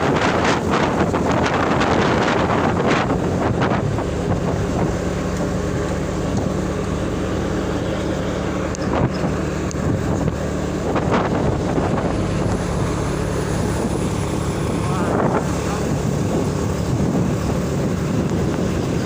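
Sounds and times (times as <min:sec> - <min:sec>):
truck engine droning: 0:00.0 - 0:19.0
wind on microphone: 0:00.0 - 0:19.0.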